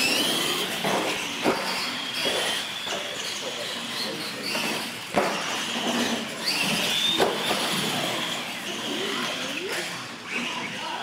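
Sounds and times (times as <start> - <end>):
toy truck motors whining: 0.0 - 11.0.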